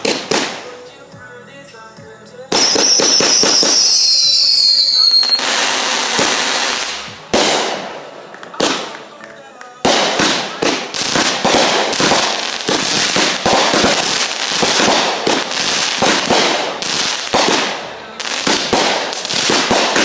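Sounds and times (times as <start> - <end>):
fireworks bangs: 0.0 - 0.9, 2.5 - 20.0.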